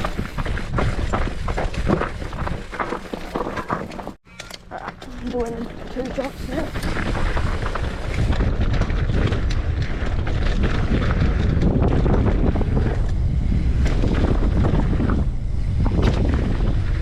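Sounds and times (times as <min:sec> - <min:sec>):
wind buffeting microphone: 0:00.0 - 0:02.8, 0:05.2 - 0:17.0
bike clicks and rattles: 0:00.0 - 0:17.0.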